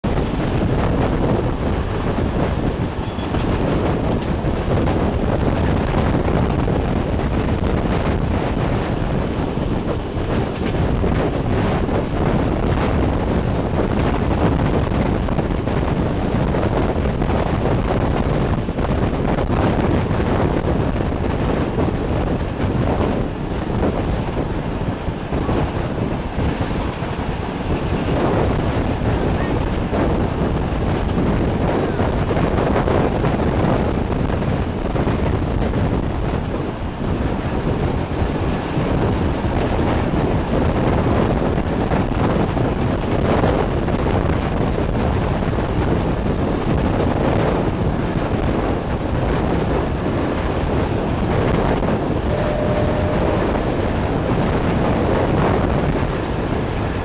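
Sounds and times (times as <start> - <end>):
train rumbling on rails: 0.0 - 57.0
wind buffeting microphone: 0.0 - 57.0.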